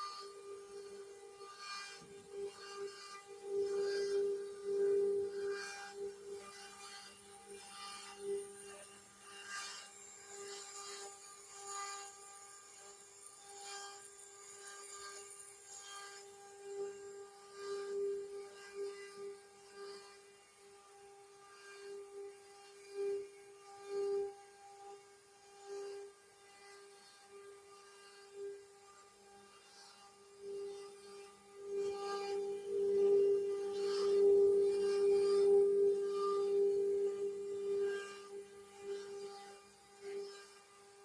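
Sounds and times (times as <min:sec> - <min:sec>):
router spindle whine: 0:00.0 - 0:41.0.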